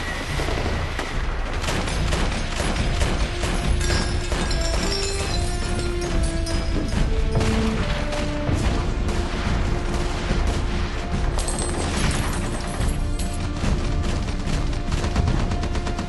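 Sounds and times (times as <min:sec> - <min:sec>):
continuous gunfire: 0:00.0 - 0:16.0.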